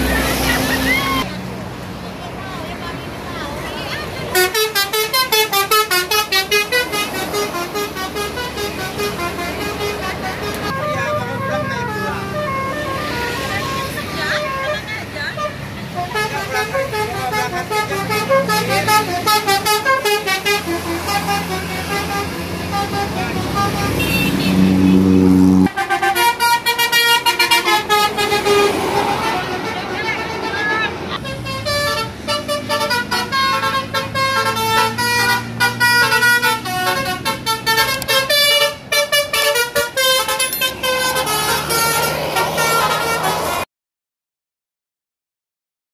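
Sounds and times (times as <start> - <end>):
bus engine running: 0.0 - 43.6
multi-tone bus horn melody: 4.0 - 43.7.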